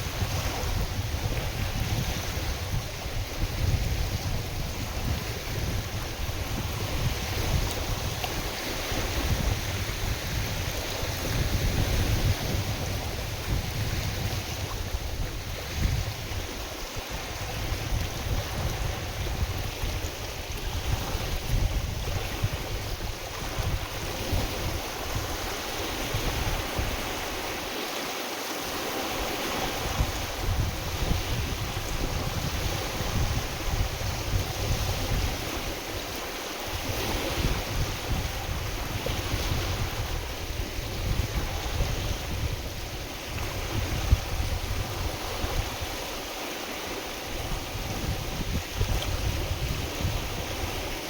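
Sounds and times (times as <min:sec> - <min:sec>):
wind buffeting microphone: 0:00.0 - 0:27.9, 0:28.6 - 0:51.0
lake waves washing: 0:00.0 - 0:51.0.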